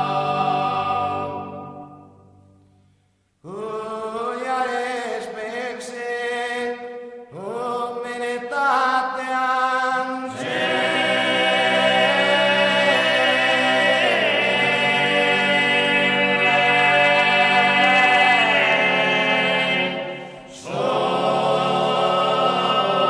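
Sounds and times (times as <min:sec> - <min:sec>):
male choir singing a cappella: 0:00.0 - 0:02.1, 0:03.5 - 0:23.0.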